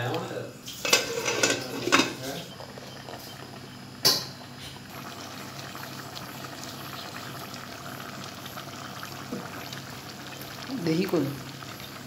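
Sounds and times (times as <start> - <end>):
curry bubbling in a pot: 1.0 - 12.0.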